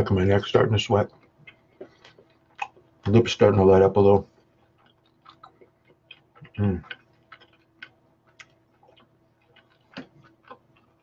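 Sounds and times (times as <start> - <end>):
person chewing crisp crust: 1.0 - 11.0.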